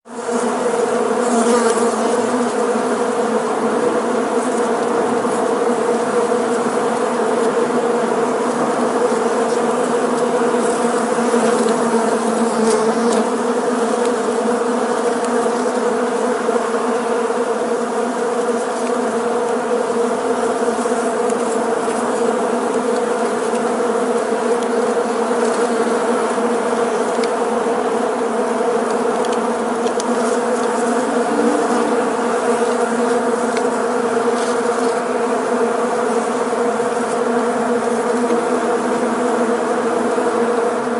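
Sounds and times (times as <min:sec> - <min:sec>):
bees buzzing: 0:00.1 - 0:40.9.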